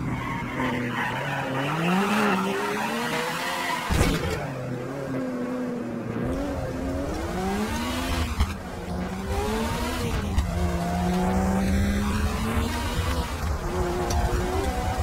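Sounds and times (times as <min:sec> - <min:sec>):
video game race car engine revving: 0:00.0 - 0:15.0.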